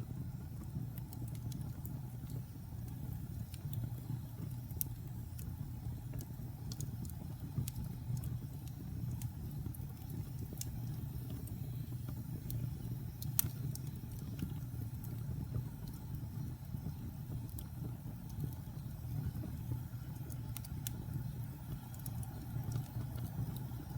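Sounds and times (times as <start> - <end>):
fire crackling and popping: 0.0 - 23.9.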